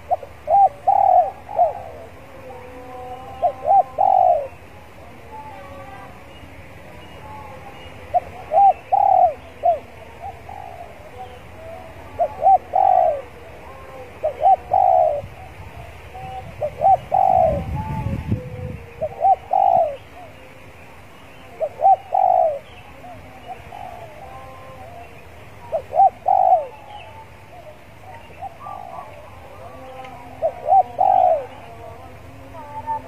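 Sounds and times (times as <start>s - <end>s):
dove cooing: 0.0s - 33.0s.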